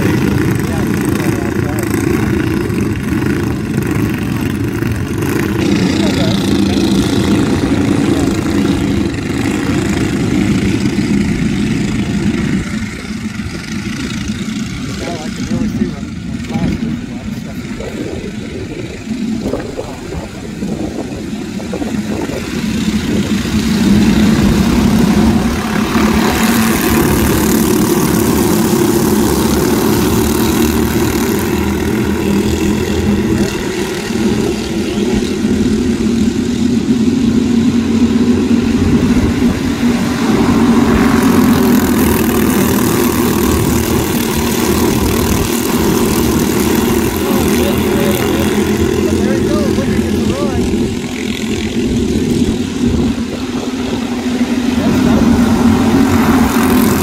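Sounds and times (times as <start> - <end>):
small race car engines running: 0.0 - 57.0.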